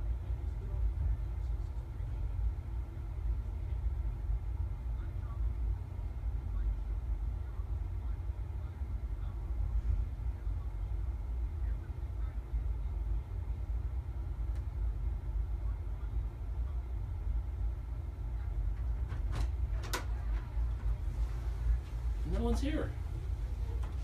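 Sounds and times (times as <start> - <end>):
low room rumble: 0.0 - 24.0.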